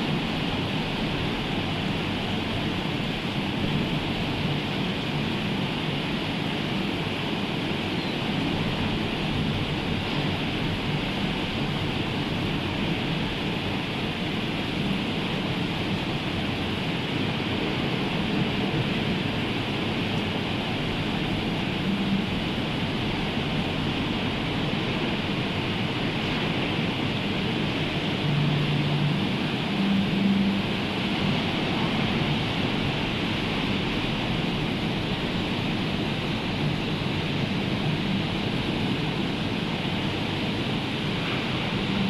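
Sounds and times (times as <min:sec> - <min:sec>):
rain: 0:00.0 - 0:42.0
sea surf: 0:00.0 - 0:42.0.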